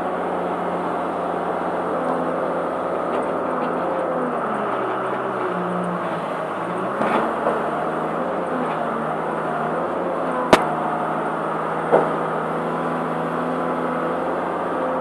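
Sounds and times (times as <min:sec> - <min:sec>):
log loader running: 0:00.0 - 0:14.8.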